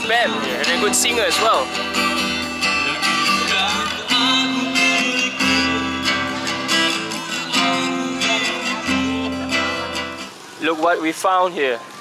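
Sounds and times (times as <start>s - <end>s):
live band playing: 0.0s - 10.6s
strummed guitar: 0.0s - 10.9s.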